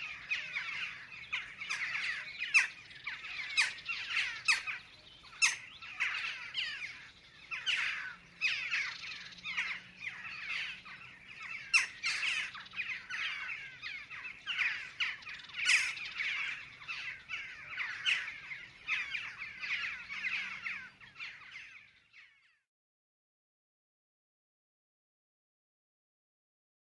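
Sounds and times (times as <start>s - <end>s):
jackdaws calling: 0.0s - 22.6s.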